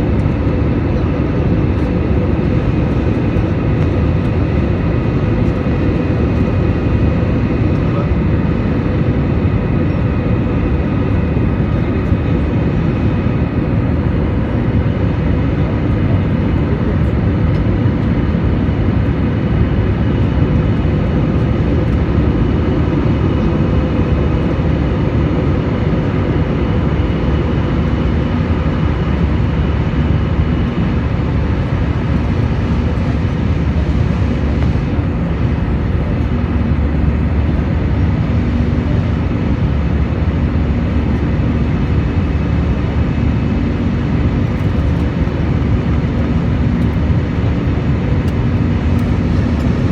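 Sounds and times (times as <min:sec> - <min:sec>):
airliner engines and airflow: 0:00.0 - 0:49.9.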